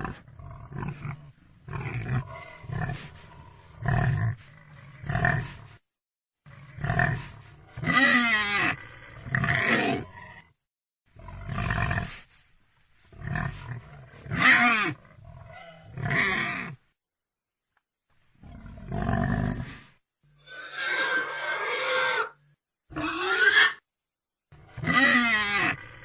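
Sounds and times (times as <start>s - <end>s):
pig grunting and squealing: 0.0s - 5.7s, 6.5s - 10.5s, 11.2s - 12.2s, 13.1s - 16.8s, 18.4s - 23.8s, 24.6s - 26.0s.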